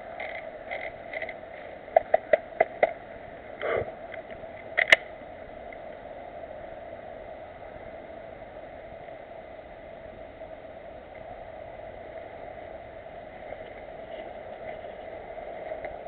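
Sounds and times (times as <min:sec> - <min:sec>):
hiss and rumble of noise: 0:00.0 - 0:16.0.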